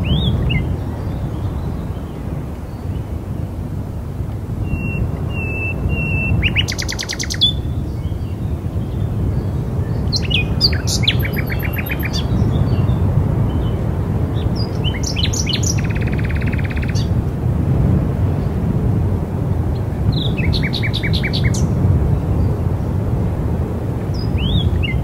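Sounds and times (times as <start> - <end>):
songbirds calling: 0.0 - 3.5, 4.6 - 17.2, 19.7 - 23.0, 24.1 - 25.0
low rush of wind: 0.0 - 25.0.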